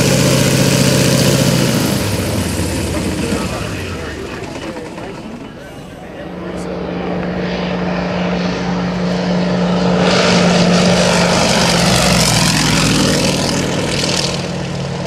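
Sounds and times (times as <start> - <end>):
propeller plane flying low: 0.0 - 15.0.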